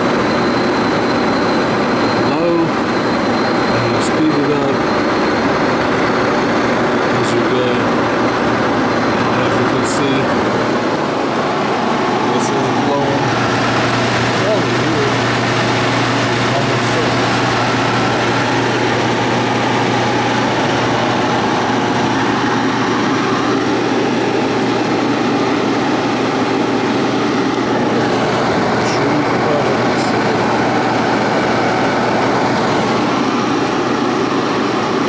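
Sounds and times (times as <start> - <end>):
floor blower running: 0.0 - 35.0.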